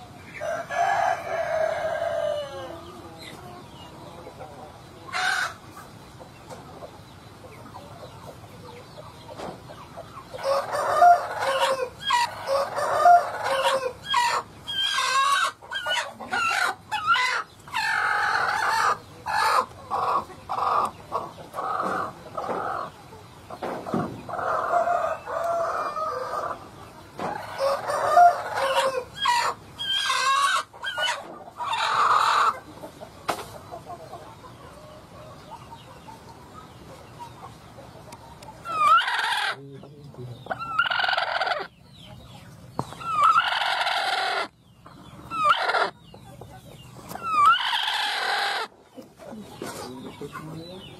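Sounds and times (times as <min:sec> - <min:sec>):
hen clucking and squawking: 0:00.0 - 0:50.9.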